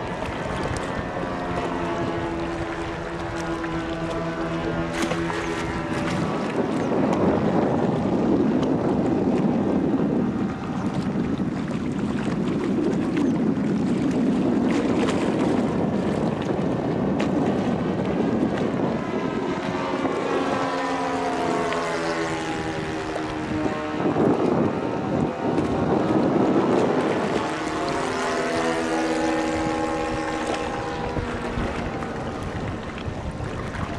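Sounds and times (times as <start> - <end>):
model plane propellers droning: 0.0 - 11.2, 16.6 - 33.9
wind on microphone: 0.0 - 33.9.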